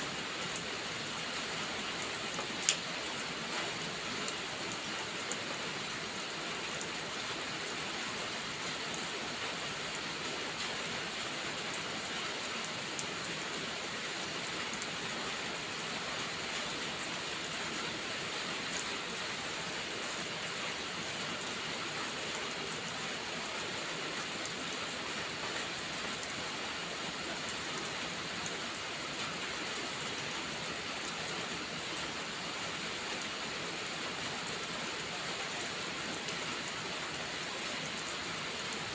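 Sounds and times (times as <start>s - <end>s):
steady rain pattering: 0.0s - 38.9s.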